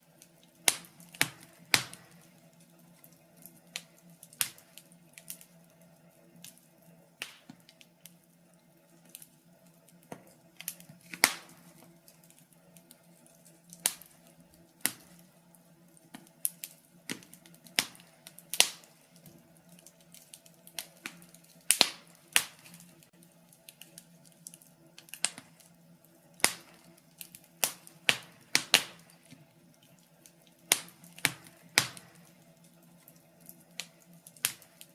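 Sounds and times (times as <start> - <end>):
faint steady hum: 0.0 - 34.9
wood fire crackling and popping: 0.0 - 34.9.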